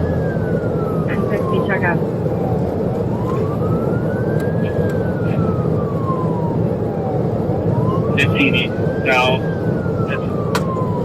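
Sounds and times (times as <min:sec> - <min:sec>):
car road and engine noise: 0:00.0 - 0:11.0
police siren wailing: 0:00.0 - 0:11.0.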